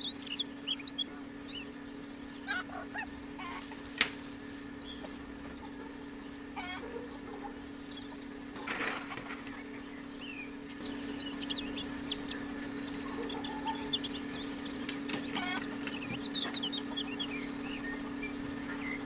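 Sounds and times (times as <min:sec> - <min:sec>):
birds chirping: 0:00.0 - 0:19.0
chickens clucking: 0:00.0 - 0:19.0
steady hum: 0:00.0 - 0:19.0.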